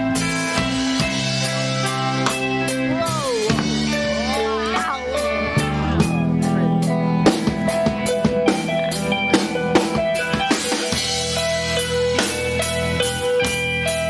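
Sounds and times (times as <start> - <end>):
drum kit beat: 0.0 - 14.0
live rock band playing: 0.0 - 14.0.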